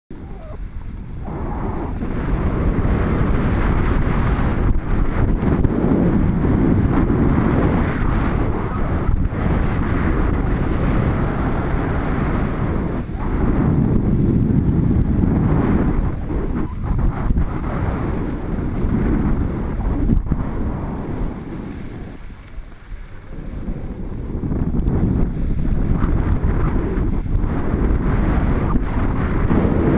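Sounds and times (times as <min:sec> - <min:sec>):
wind buffeting microphone: 0:00.1 - 0:29.9.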